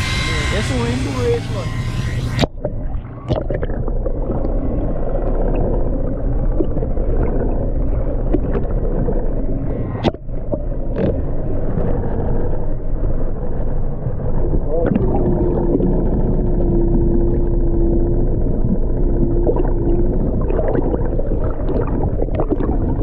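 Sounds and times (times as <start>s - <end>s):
underwater low drone: 0.0s - 23.0s.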